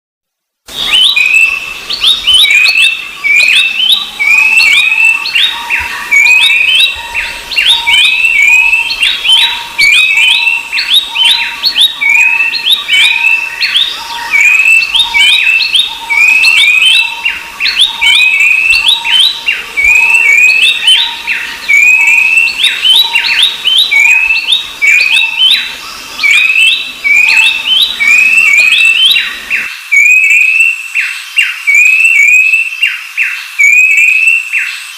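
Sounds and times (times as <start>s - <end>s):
birds singing whistled notes: 0.7s - 34.9s.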